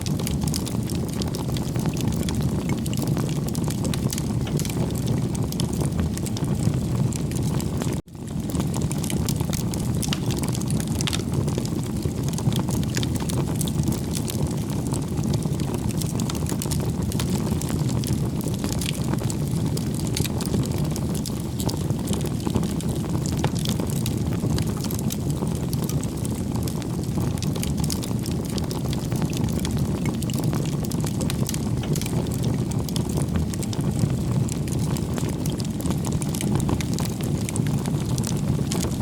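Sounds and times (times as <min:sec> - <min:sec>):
bonfire flames rumbling: 0:00.0 - 0:39.0
fire crackles and pops: 0:00.0 - 0:39.0.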